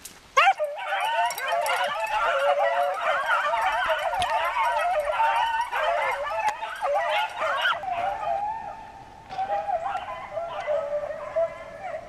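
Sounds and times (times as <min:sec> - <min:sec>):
hounds baying: 0:00.4 - 0:12.0.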